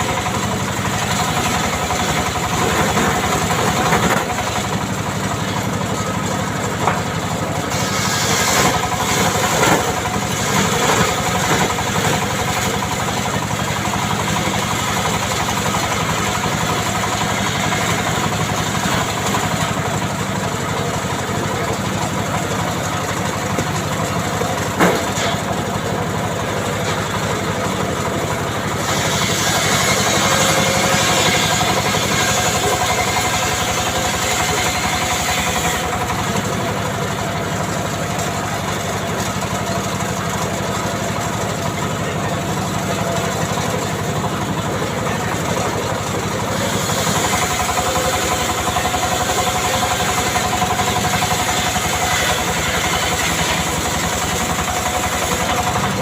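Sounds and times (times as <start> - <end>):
saw engine running: 0.0 - 56.0.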